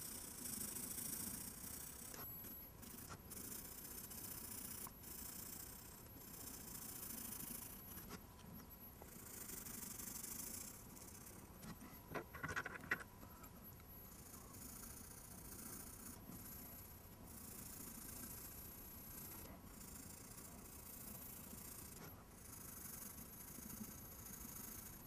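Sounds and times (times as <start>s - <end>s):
pencil scratching on paper: 0.0s - 13.5s, 14.1s - 25.0s.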